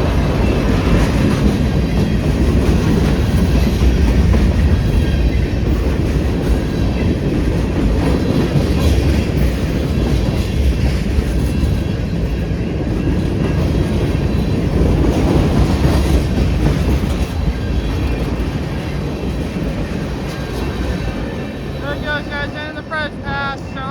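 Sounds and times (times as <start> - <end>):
freight train wheels rumbling on rails: 0.0 - 23.9.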